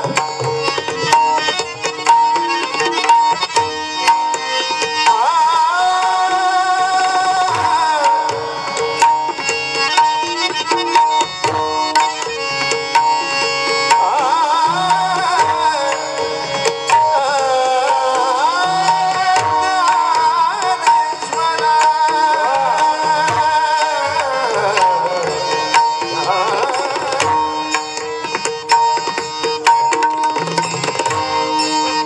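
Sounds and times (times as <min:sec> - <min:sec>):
hand drum: 0:00.0 - 0:04.5, 0:07.4 - 0:17.3, 0:18.7 - 0:32.0
held instrumental tones: 0:00.0 - 0:32.0
person singing devotional song: 0:02.0 - 0:11.1, 0:11.8 - 0:28.8.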